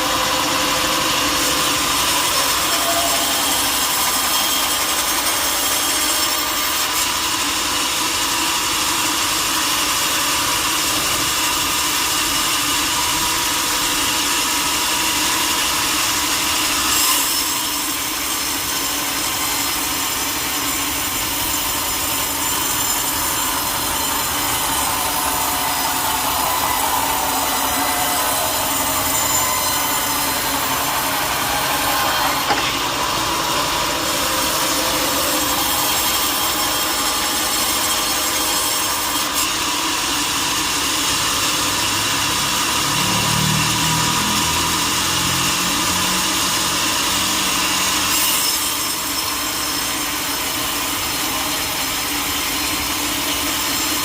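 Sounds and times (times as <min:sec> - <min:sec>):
saw cutting wood: 0:00.0 - 0:54.0.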